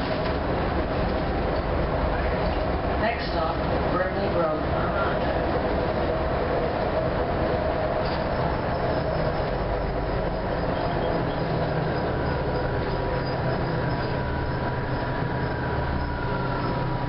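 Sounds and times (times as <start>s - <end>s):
bus diesel engine droning: 0.0s - 17.0s
road noise: 0.0s - 17.0s.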